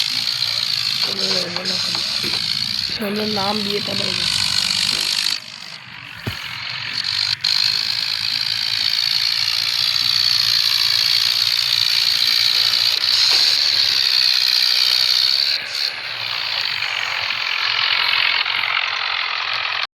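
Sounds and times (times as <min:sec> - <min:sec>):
tractor engine drone: 0:00.0 - 0:19.9.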